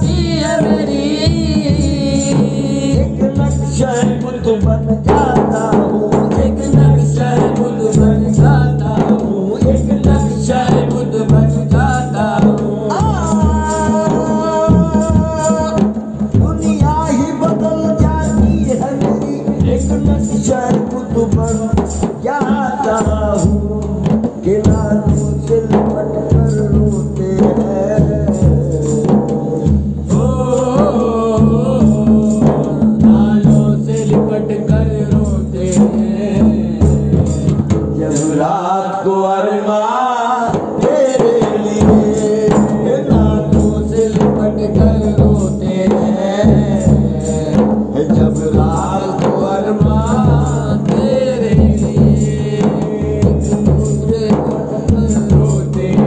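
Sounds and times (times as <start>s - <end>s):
frame drum and hand drums: 0.0s - 39.0s, 40.3s - 56.0s
men singing: 0.0s - 56.0s.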